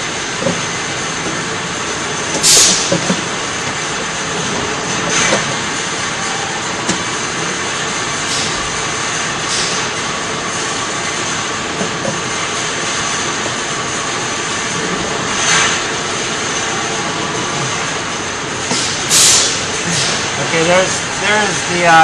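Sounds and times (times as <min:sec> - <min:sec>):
mechanical running noise: 0:00.0 - 0:22.0.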